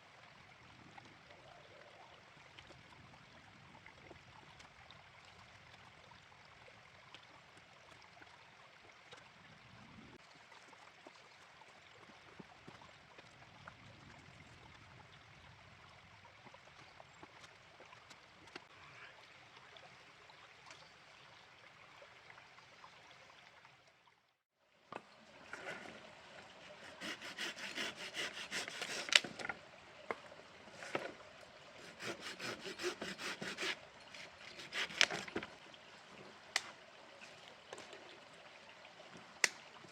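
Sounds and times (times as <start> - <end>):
faint mountain stream flowing: 0.0 - 39.9.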